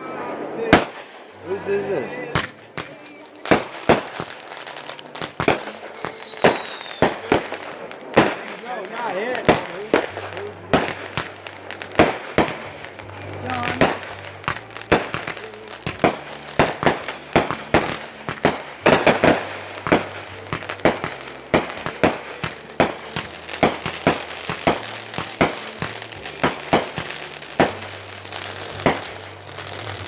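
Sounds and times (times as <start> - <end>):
fireworks exploding: 0.0 - 30.0.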